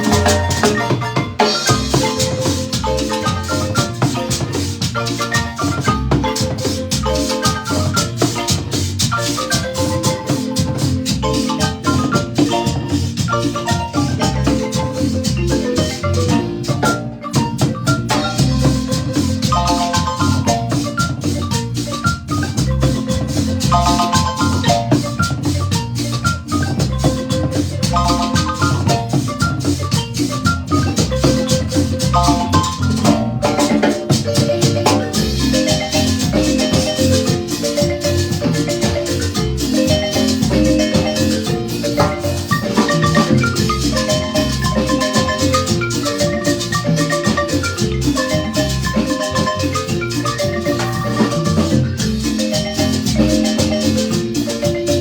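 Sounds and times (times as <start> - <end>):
marimba ensemble playing: 0.0 - 55.0
shaker keeping time: 0.0 - 55.0.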